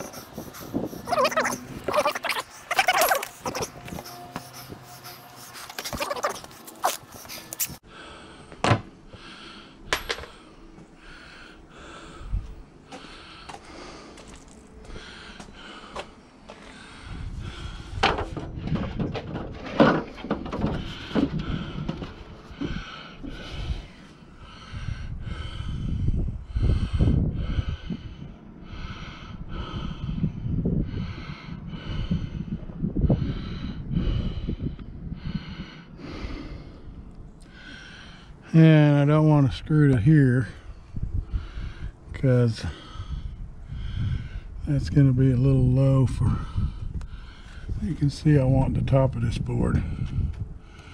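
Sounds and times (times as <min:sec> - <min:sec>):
man breathing hard: 0:00.0 - 0:19.4, 0:20.0 - 0:38.6, 0:40.4 - 0:44.8, 0:45.8 - 0:48.0, 0:49.6 - 0:50.9.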